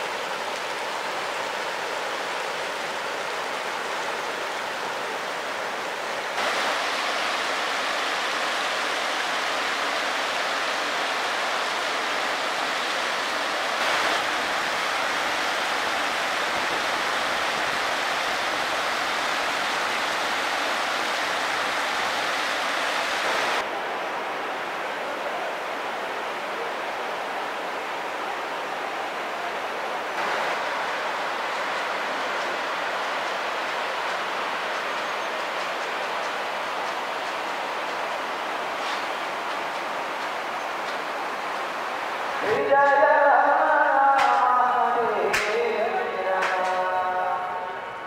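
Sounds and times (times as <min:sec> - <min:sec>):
river rapids rushing: 0:00.0 - 0:48.0.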